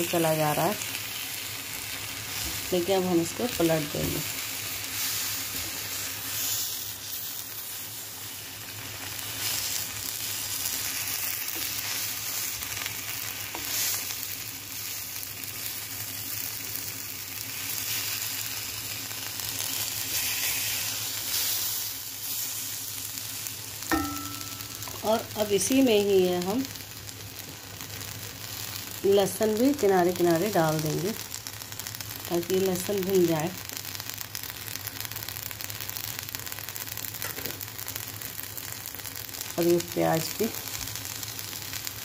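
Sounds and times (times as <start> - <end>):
tomatoes sizzling on a hot pan: 0.0 - 42.0.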